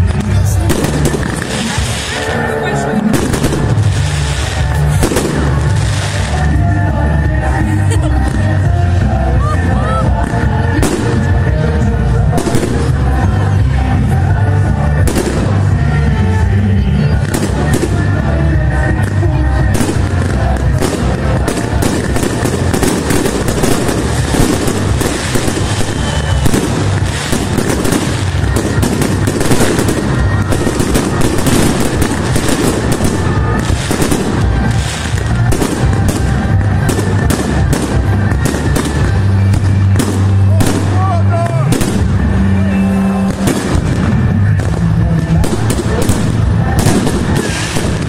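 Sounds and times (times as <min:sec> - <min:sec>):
fireworks bangs and crackles: 0:00.0 - 0:48.0
music with bass line: 0:02.7 - 0:48.0.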